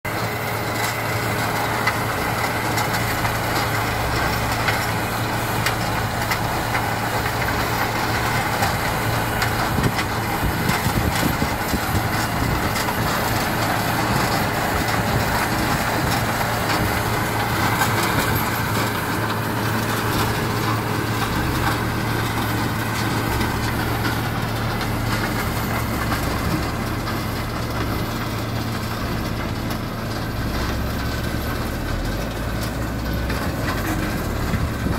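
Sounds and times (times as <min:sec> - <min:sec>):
tractor diesel engine running: 0:00.0 - 0:34.9
rumble of machinery: 0:00.1 - 0:34.9.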